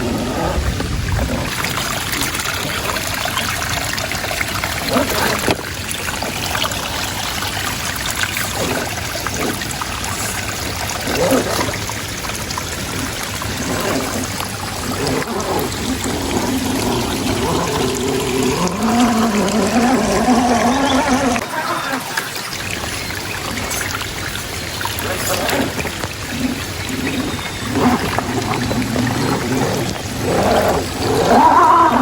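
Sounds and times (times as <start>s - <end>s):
floodwater running: 0.0s - 32.0s
water trickling and splashing: 0.0s - 32.0s.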